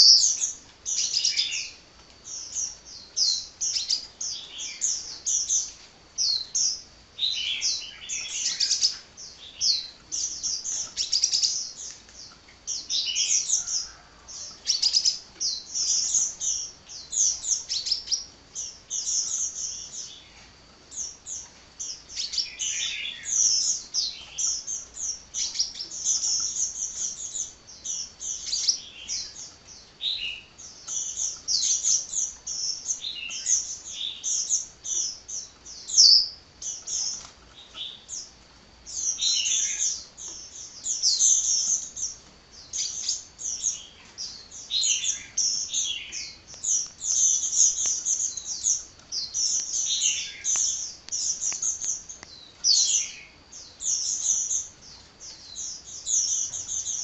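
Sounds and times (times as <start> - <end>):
bird chirping and trilling: 0.0 - 57.0.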